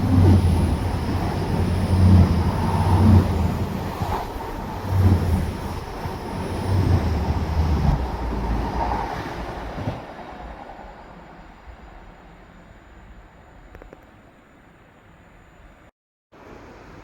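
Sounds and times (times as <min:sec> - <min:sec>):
train passing rumbling: 0:00.0 - 0:15.8.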